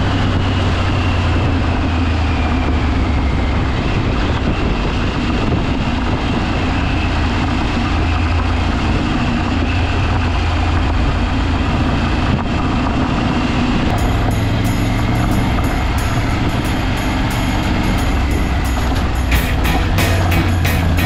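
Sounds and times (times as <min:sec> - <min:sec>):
off-road vehicle engine rumbling: 0:00.0 - 0:21.0.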